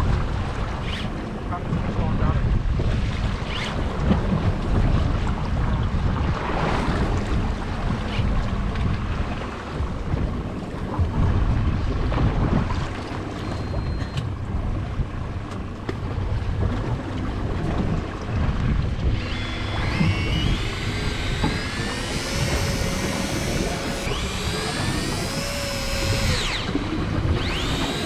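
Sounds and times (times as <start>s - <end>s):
wind buffeting microphone: 1.5s - 13.3s, 14.3s - 28.0s.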